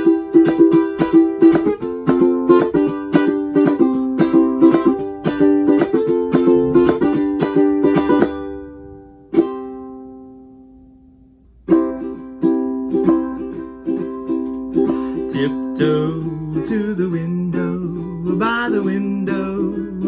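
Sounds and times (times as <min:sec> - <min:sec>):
ukulele strumming chords: 0:00.0 - 0:20.0.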